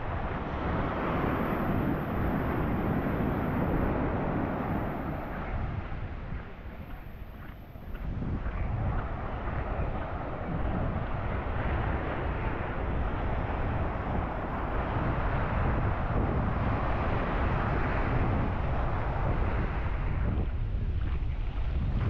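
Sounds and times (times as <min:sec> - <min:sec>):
waves washing on beach: 0:00.0 - 0:22.0
wind buffeting microphone: 0:00.0 - 0:22.0.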